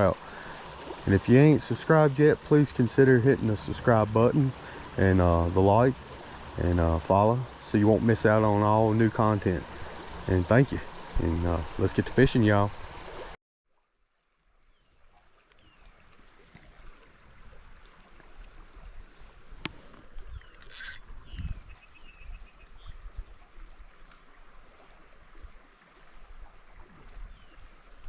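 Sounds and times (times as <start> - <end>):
creek water running: 0.0 - 28.0.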